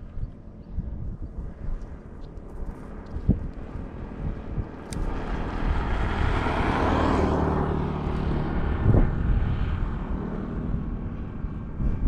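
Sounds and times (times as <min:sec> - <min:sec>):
motor drone: 0:00.0 - 0:12.0.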